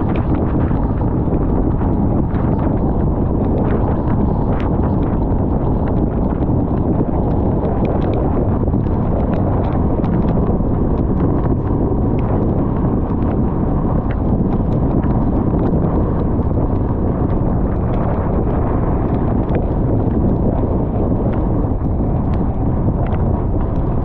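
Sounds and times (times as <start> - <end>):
car road rumble on wet highway: 0.0 - 24.0.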